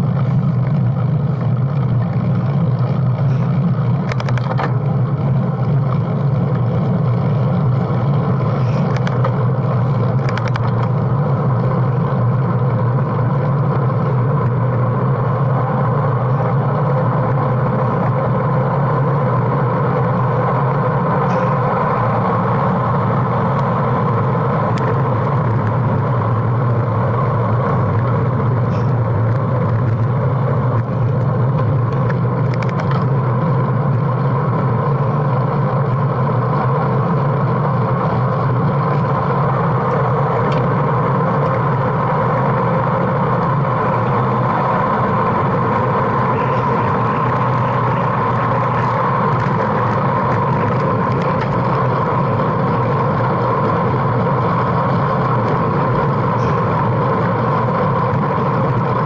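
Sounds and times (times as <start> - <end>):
bike tyre noise: 0.0 - 59.0.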